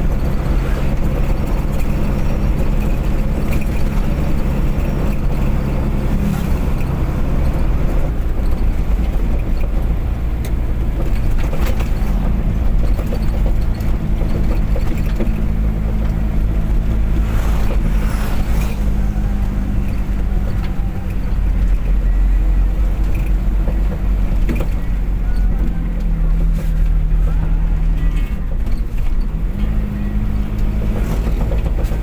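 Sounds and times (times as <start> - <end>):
car engine running: 0.0 - 32.0
road rumble: 0.0 - 32.0.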